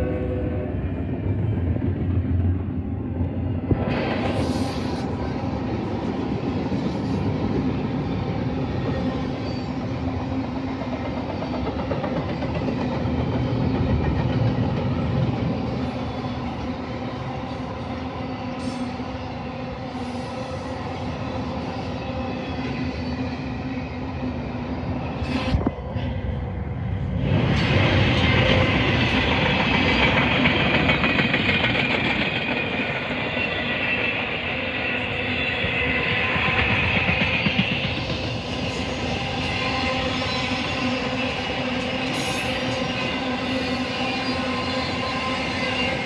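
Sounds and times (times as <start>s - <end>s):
freight train rolling past: 0.0s - 46.0s.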